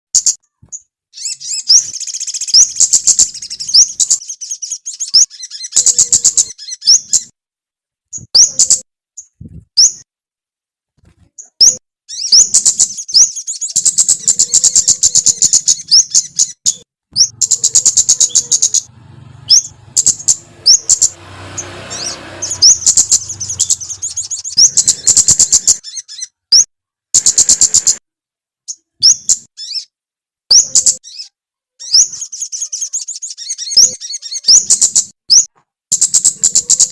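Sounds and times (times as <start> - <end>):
songbird chirping and trilling: 0.2 - 7.4, 8.1 - 10.1, 11.3 - 28.0, 28.7 - 36.9.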